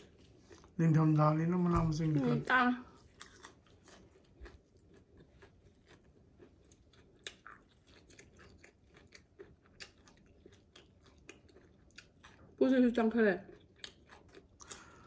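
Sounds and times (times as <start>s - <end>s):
person chewing food: 0.0s - 0.8s, 2.0s - 12.6s, 13.5s - 15.0s.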